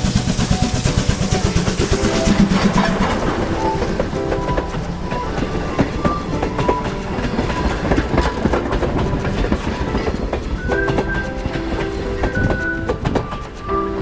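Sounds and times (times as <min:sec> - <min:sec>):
train rumble: 0:00.0 - 0:14.0
train wheels clacking over rail joints: 0:00.0 - 0:14.0.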